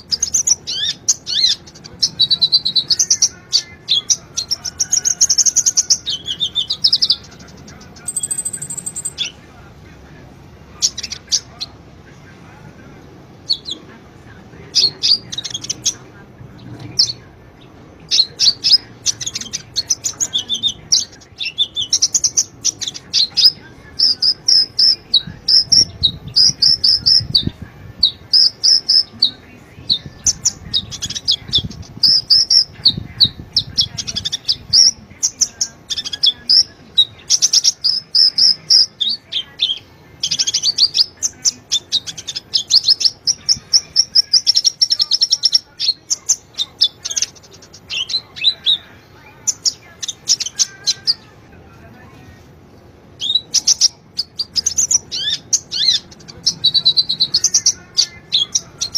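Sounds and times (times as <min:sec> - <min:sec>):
bird singing high chirps and trills: 0:00.0 - 0:09.5, 0:10.8 - 0:11.8, 0:13.3 - 0:13.9, 0:14.6 - 0:51.5, 0:52.2 - 0:58.9.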